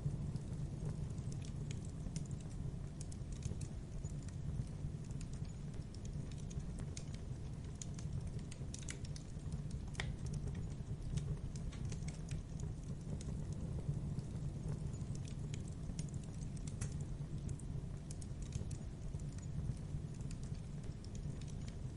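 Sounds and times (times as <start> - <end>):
fire rumbling: 0.0 - 21.9
wood fire crackling and popping: 0.0 - 21.9.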